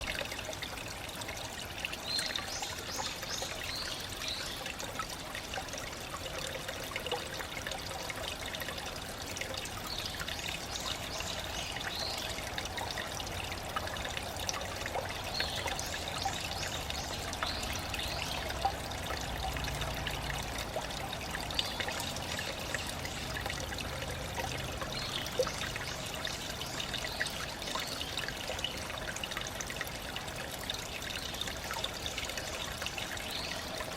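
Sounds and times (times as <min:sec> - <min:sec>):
stream trickling over rocks: 0:00.0 - 0:33.9.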